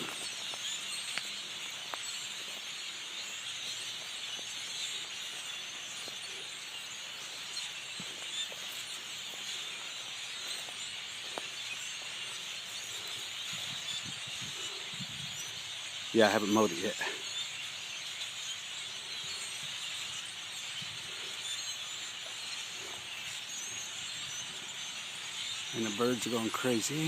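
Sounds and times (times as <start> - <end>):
many birds chattering: 0.0 - 27.0.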